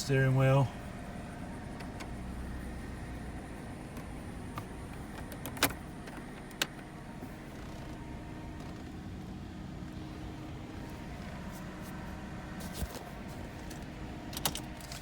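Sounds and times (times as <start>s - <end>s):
sharp clicks inside a car: 0.0s - 10.1s, 12.6s - 15.0s
steady low hum: 0.0s - 15.0s.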